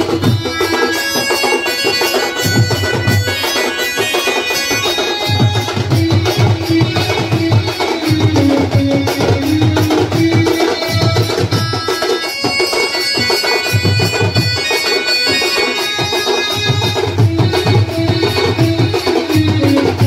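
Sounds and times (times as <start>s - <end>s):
drums beating in bursts: 0.0s - 20.0s
reedy wind instrument melody: 0.0s - 20.0s.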